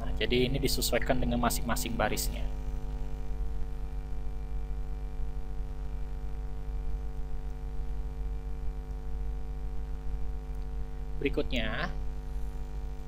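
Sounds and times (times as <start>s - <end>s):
electrical mains hum with buzz: 0.0s - 13.0s.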